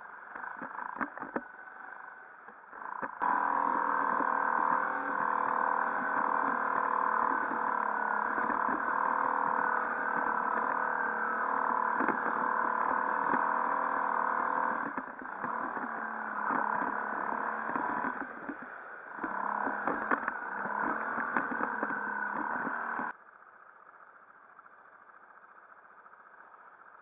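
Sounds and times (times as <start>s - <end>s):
quad bike engine running: 0.0s - 27.0s.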